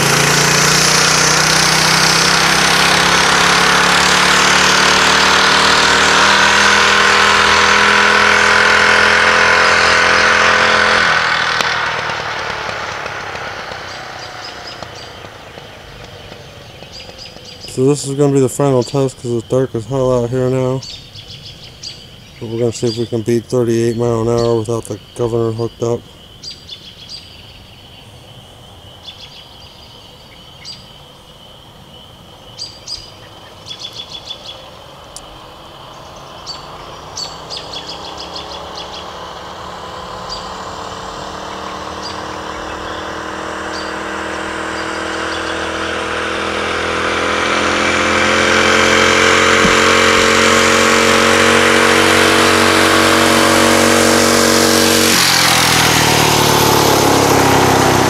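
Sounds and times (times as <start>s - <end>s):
birds chirping: 0.0s - 58.0s
small engine passing: 0.0s - 58.0s.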